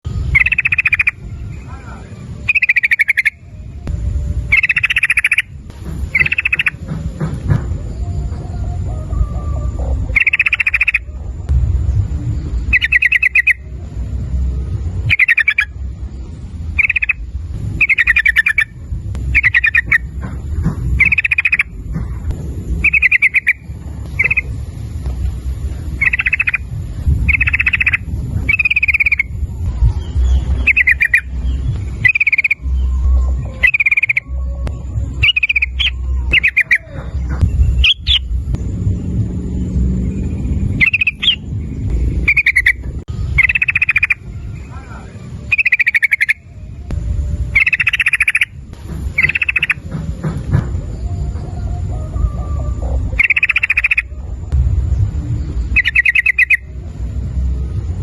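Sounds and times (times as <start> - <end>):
bird singing: 0.0 - 58.0
low rumble: 0.0 - 58.0.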